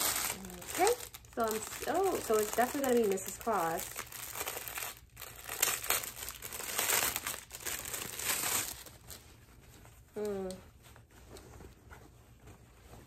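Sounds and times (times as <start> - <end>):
gift wrapping crinkling: 0.0 - 11.8.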